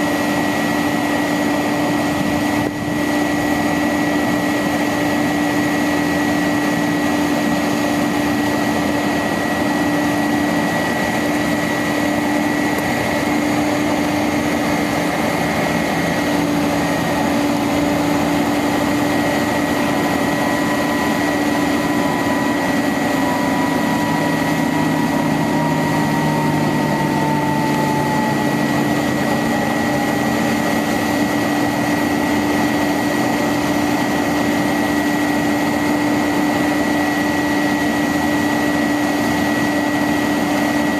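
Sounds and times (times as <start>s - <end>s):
truck engine running: 0.0s - 40.7s
steady whine: 0.0s - 40.9s.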